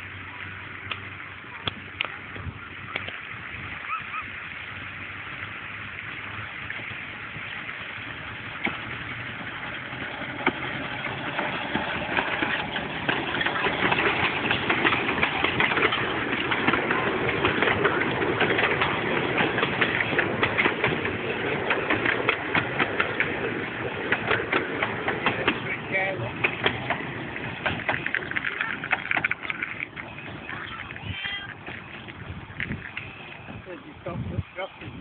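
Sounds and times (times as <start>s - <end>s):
steam locomotive chuffing: 0.0s - 35.0s
wheels clattering on rails: 0.0s - 35.0s.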